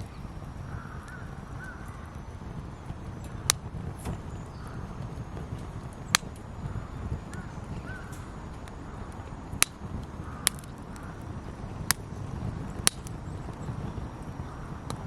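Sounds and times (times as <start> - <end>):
low steady rumble: 0.0 - 15.0
wood fire crackling: 0.0 - 15.0
sharp fire pops: 1.8 - 15.0.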